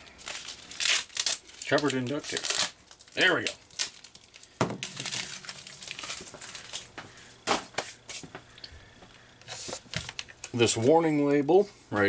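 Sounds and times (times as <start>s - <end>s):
duct tape crinkling: 0.0s - 10.9s.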